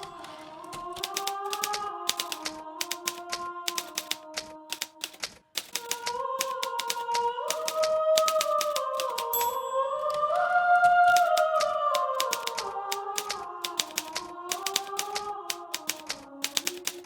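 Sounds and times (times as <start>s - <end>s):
typewriter key strikes: 0.0s - 9.6s, 11.1s - 17.0s.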